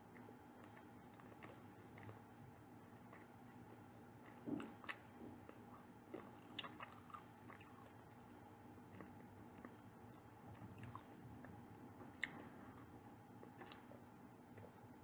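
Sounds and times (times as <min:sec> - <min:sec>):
quiet chewing: 0:00.0 - 0:15.0.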